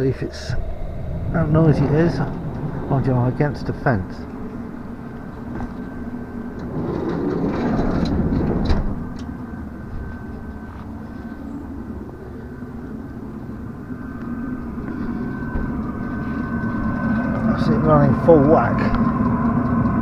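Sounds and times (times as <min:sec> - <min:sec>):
diesel heater rumbling and whining: 0:00.0 - 0:20.0.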